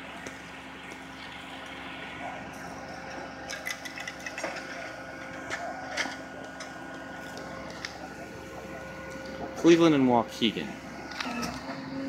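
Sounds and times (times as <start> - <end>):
idling vehicles hum: 0.0 - 12.0.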